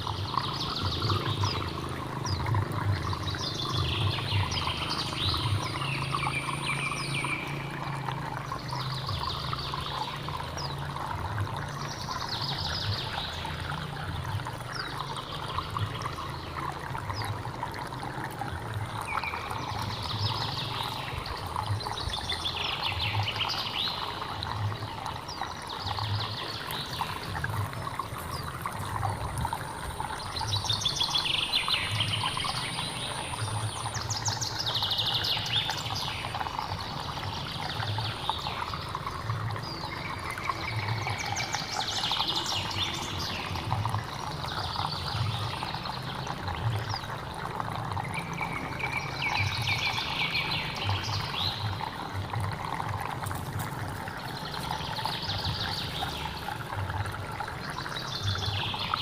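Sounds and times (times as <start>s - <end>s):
stream water gurgling: 0.0s - 59.0s.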